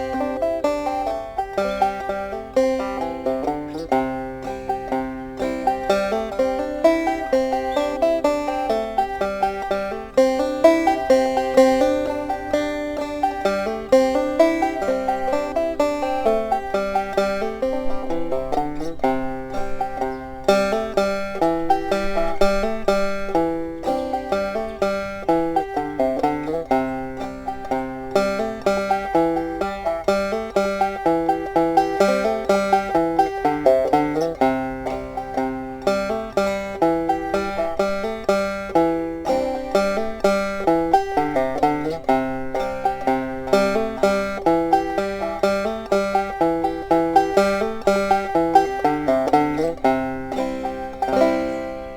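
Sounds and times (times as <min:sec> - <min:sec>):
banjo plucked notes: 0:00.0 - 0:51.9.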